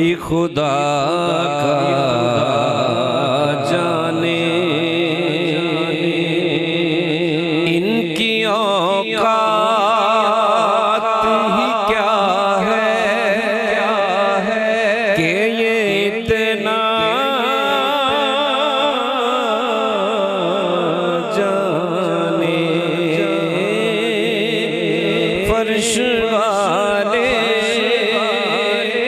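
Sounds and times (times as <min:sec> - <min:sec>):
person singing wordless melisma: 0:00.0 - 0:29.0.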